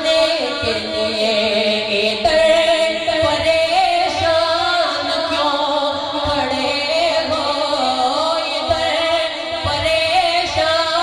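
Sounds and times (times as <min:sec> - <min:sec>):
man singing devotional verse: 0:00.0 - 0:11.0.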